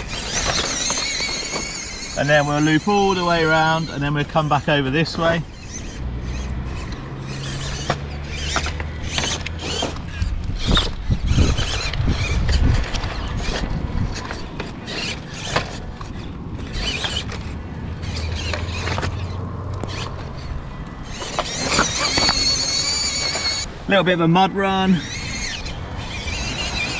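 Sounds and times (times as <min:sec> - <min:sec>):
tyres crunching on rocks: 0:00.0 - 0:23.7
small electric motor hum: 0:00.0 - 0:23.9, 0:24.6 - 0:26.9.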